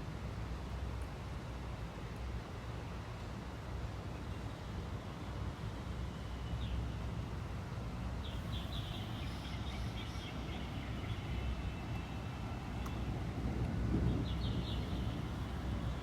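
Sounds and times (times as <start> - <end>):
rain noise: 0.0 - 16.0.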